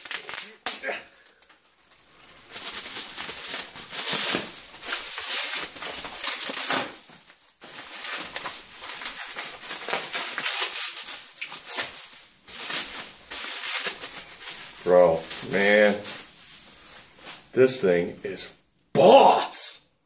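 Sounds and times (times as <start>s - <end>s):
bubble wrap crinkling: 0.0s - 18.6s.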